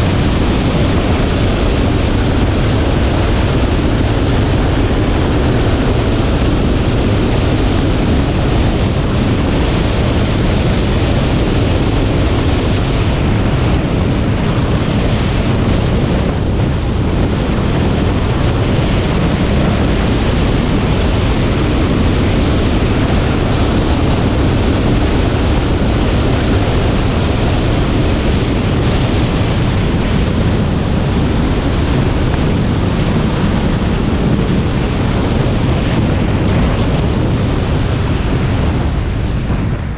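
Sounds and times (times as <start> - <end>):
road and tyre noise: 0.0 - 39.9
wind rushing across microphone: 0.0 - 39.9.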